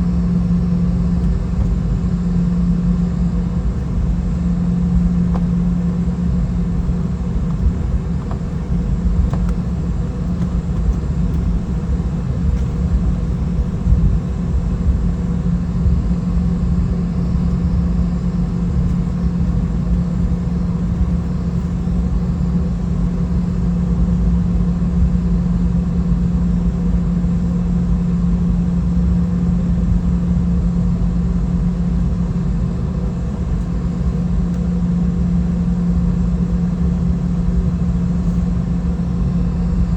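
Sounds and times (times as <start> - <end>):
aircraft cabin engine hum: 0.0 - 39.9.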